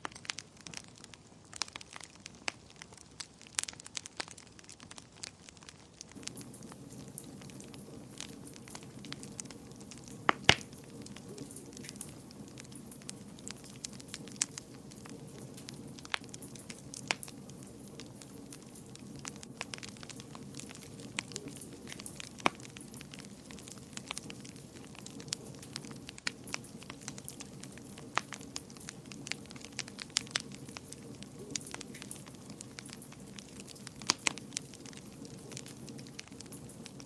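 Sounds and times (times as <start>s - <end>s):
fireplace fire crackling and popping: 0.0s - 37.0s.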